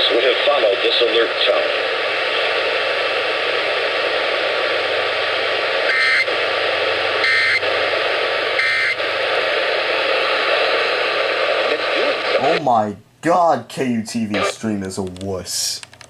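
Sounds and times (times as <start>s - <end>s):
loud radio static hiss: 0.0s - 13.0s, 13.8s - 15.0s.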